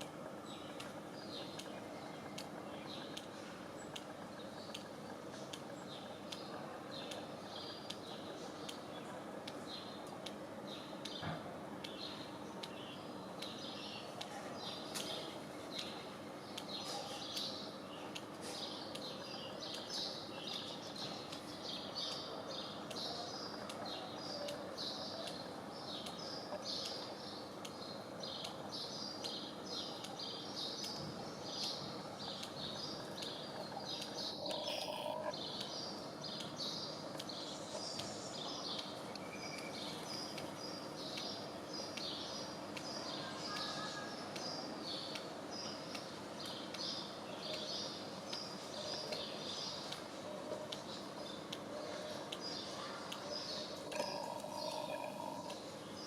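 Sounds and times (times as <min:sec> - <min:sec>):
faint steady hum: 0:00.0 - 0:56.0
small birds chirping: 0:00.0 - 0:56.0.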